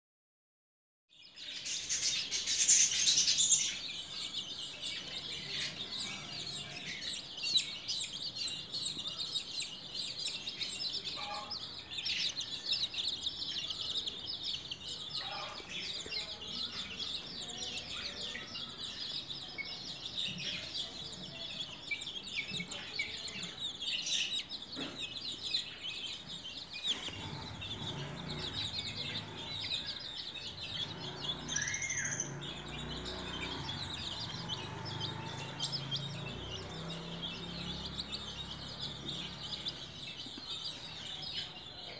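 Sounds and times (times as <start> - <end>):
chicks peeping: 1.1 - 41.9.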